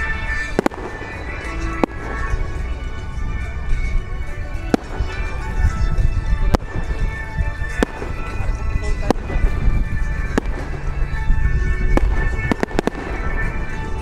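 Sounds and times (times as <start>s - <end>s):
fireworks bursting with bangs: 0.0s - 14.0s
music playing: 0.0s - 14.0s.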